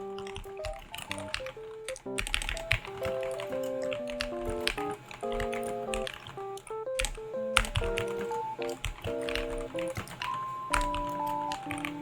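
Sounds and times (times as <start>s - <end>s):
background music with held notes: 0.0s - 12.0s
mechanical keyboard keystrokes: 0.0s - 12.0s.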